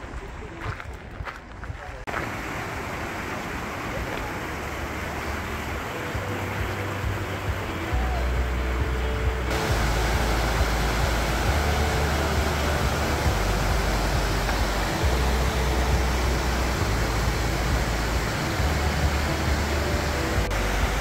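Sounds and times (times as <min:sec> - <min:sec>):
low water rumble: 0:01.9 - 0:21.0
river rushing over rocks: 0:02.1 - 0:21.0.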